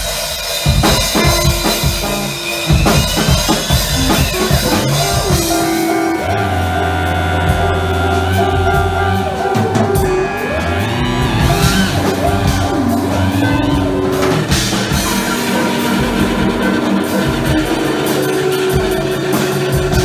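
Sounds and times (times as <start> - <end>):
percussion: 0.0 - 20.0
guitar: 0.6 - 20.0
electronic drones: 0.7 - 20.0.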